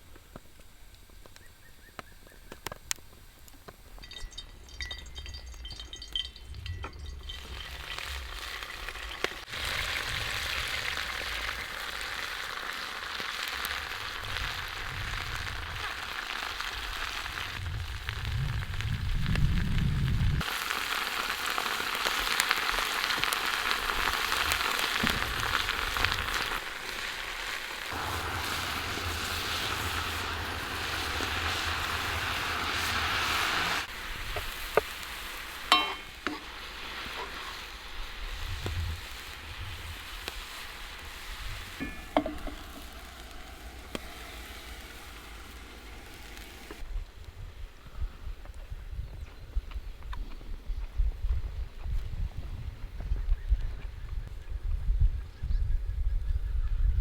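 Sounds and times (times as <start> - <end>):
food sizzling over campfire: 0.0 - 48.7
faint fire crackles: 0.0 - 55.3.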